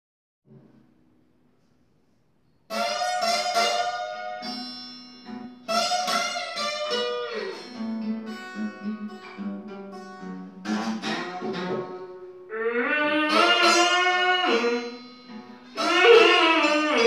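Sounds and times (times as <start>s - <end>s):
acoustic guitar blues: 2.7s - 17.0s.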